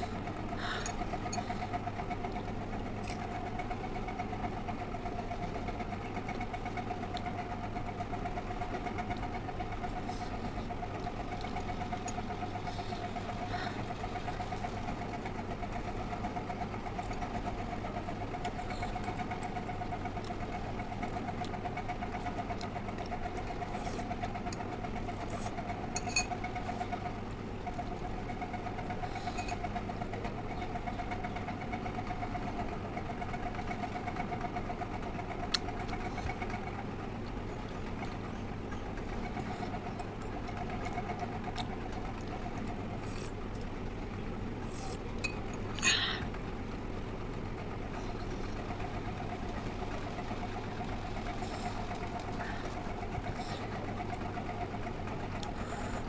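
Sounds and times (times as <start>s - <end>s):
mechanical hum with whine: 0.0s - 56.0s.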